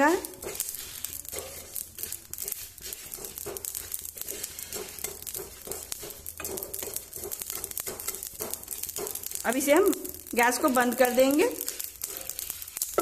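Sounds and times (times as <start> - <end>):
spices crackling and popping: 0.0 - 13.0
wooden spatula stirring: 0.0 - 13.0.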